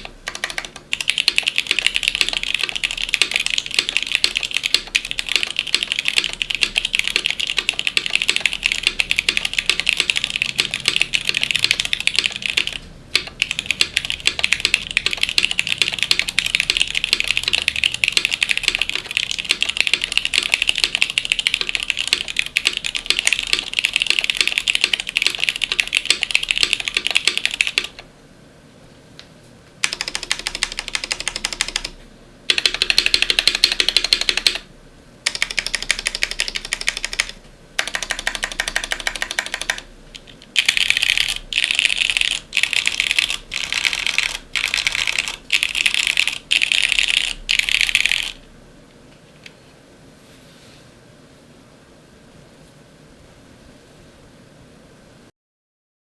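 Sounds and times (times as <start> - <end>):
mechanical keyboard typing: 0.0 - 28.1, 29.8 - 48.4.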